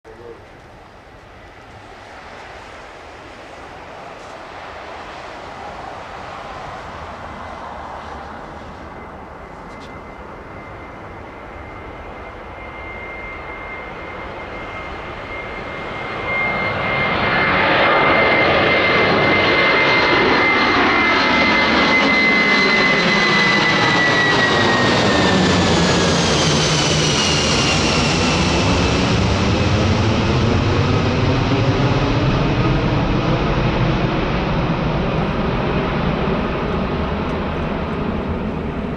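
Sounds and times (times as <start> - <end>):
jet engines roaring: 0.1 - 38.9.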